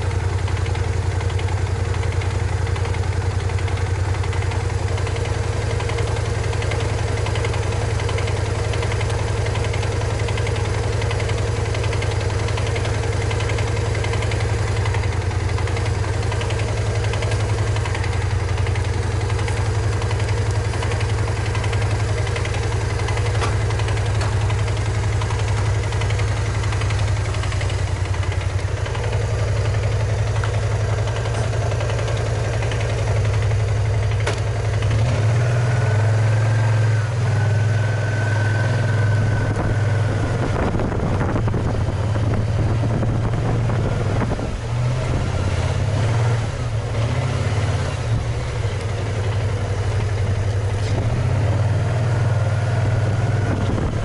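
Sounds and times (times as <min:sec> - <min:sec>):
scooter engine: 0:00.0 - 0:54.0.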